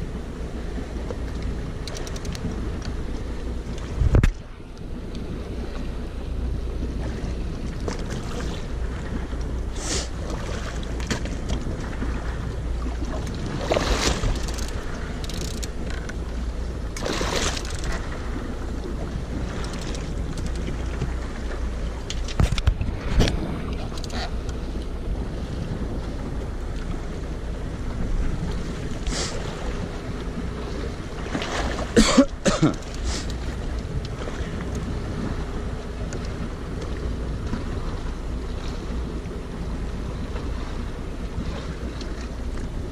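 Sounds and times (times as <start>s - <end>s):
boat engine drone: 0.0s - 42.9s
water washing along hull: 0.0s - 42.9s
wind on microphone: 0.0s - 42.9s.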